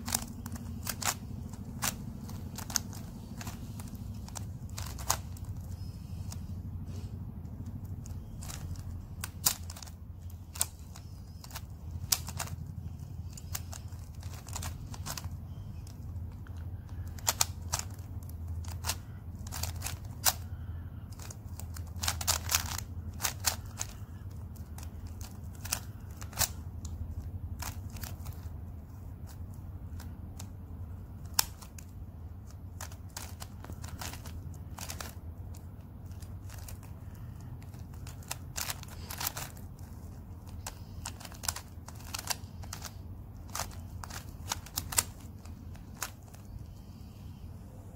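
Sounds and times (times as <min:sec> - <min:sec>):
puzzle cube clicking: 0:00.0 - 0:46.8
low hum: 0:00.0 - 0:47.9.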